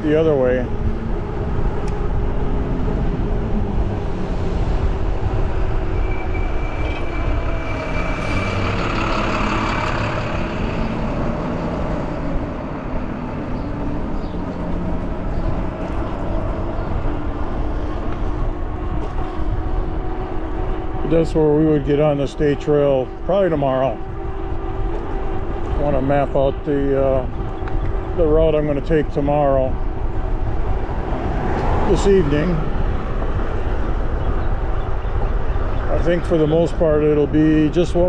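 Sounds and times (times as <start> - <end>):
bike tyre noise on road: 0.0 - 38.0
thin steady whine: 0.0 - 38.0
wind buffeting microphone: 0.0 - 38.0.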